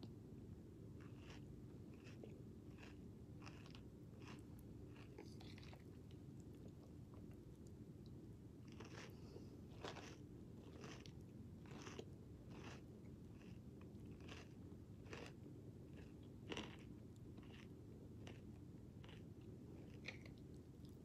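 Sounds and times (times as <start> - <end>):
crunchy cereal chewing: 1.0 - 7.6, 8.6 - 21.0.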